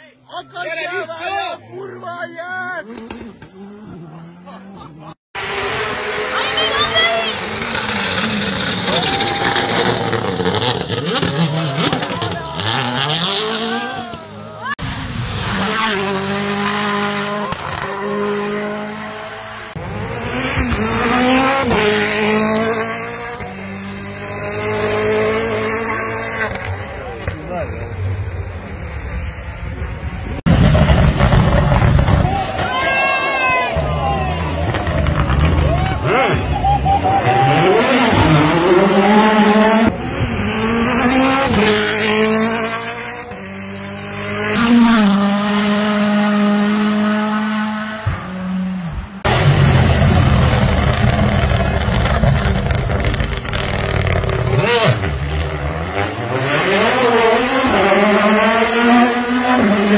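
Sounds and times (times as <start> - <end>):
car engine at high revs: 2.9 - 32.4, 33.7 - 59.9.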